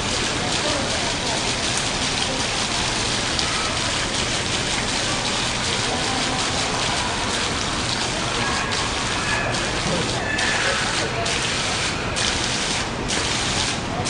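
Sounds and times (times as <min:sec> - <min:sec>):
falling water splashing: 0:00.0 - 0:14.0.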